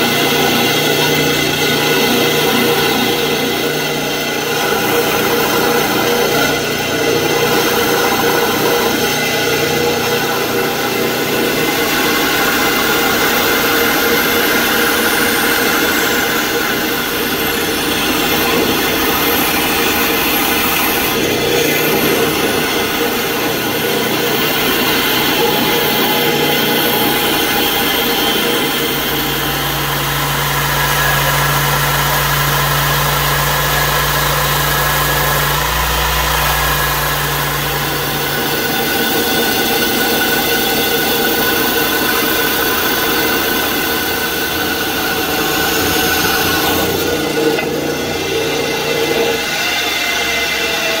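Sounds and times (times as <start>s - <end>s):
bandsaw cutting wood: 0.0s - 51.0s.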